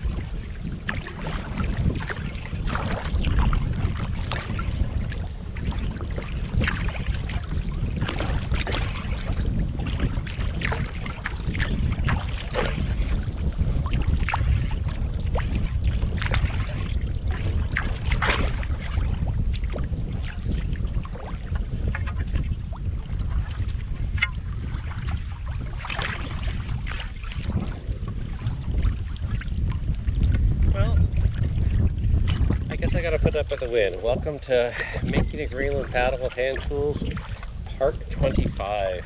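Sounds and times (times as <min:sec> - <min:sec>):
paddle splashing in water: 0:00.0 - 0:39.0
wind rumble on microphone: 0:00.0 - 0:39.0.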